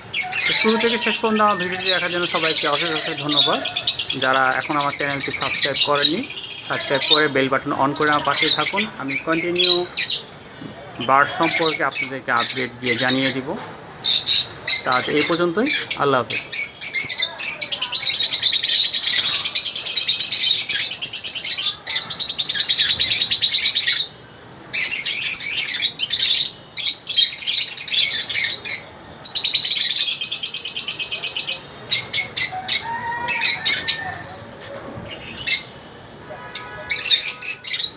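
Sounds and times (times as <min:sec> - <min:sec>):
lovebirds chattering: 0:00.0 - 0:37.9.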